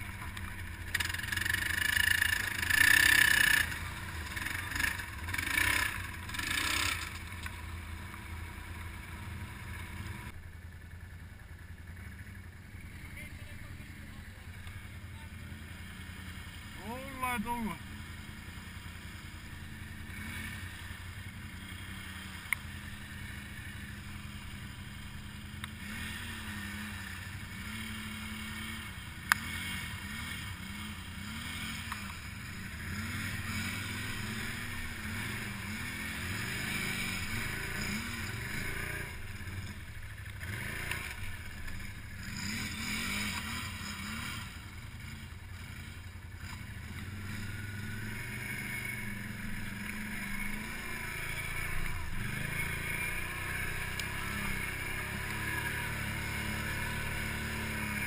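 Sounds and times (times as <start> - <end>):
quad engine revving: 0.0 - 7.5, 12.8 - 58.0.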